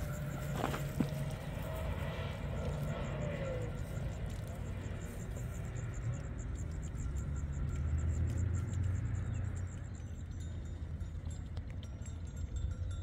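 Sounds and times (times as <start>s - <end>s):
insect chirping: 0.0s - 10.7s
distant vehicle rumble: 0.0s - 13.0s.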